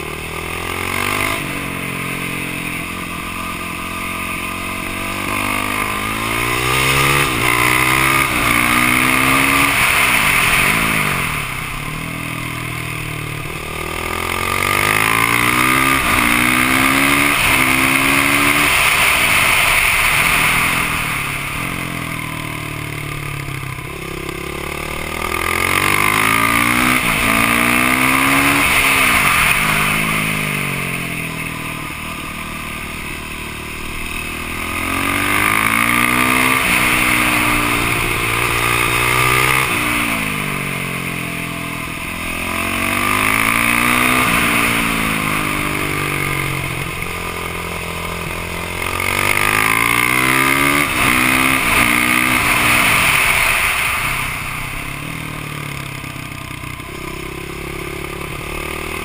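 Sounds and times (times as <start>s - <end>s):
motorcycle engine revving hard: 0.0s - 59.0s.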